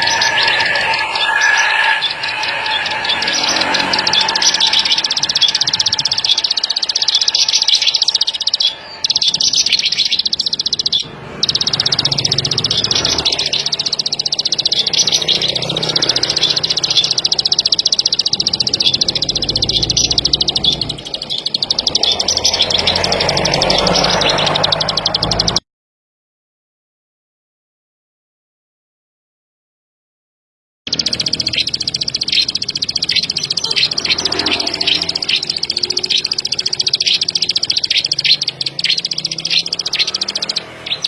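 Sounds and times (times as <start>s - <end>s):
bird singing high chirps: 0.0s - 25.6s, 30.9s - 41.0s.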